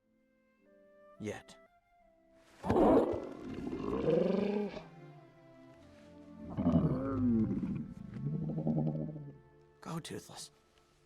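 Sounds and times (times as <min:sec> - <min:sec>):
soft orchestral film score: 0:00.0 - 0:11.0.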